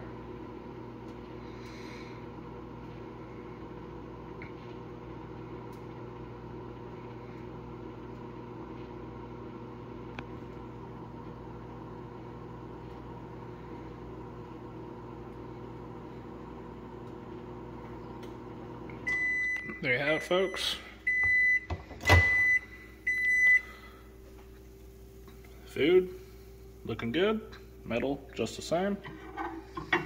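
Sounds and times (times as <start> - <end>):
microwave oven humming: 0.0 - 30.0.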